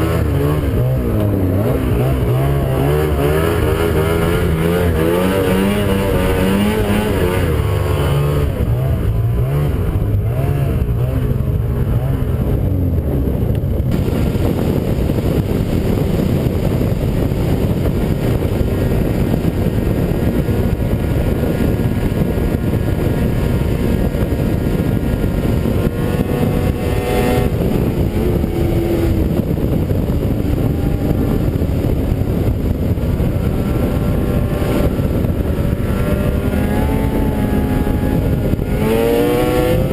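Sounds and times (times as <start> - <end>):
snowmobile engine running: 0.0 - 39.9
steady rushing noise: 0.0 - 39.9.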